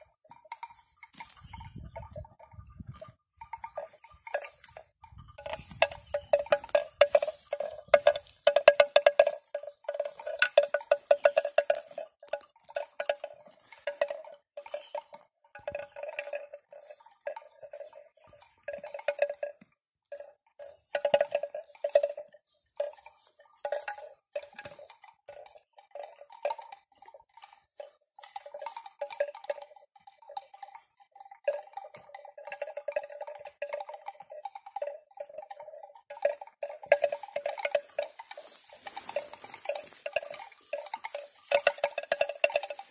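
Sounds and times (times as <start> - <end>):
higher-pitched bell: 0.0 - 26.8, 27.8 - 42.9
animal bells clanking: 0.0 - 42.9.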